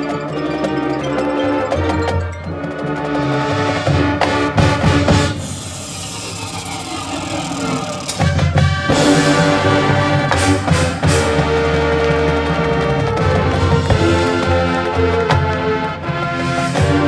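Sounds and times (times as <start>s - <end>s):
marching band playing: 0.0s - 17.0s
percussion hits: 0.0s - 17.0s
sustained brass chords: 2.6s - 17.0s.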